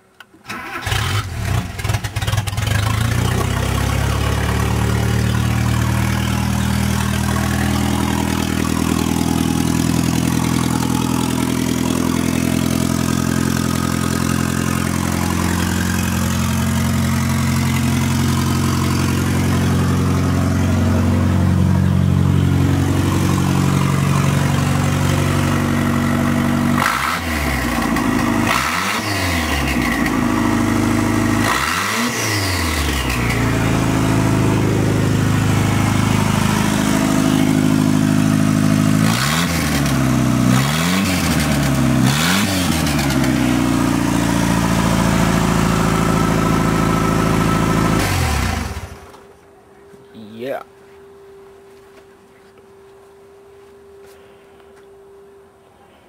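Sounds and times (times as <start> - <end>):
car engine idling and revving: 0.2 - 49.5.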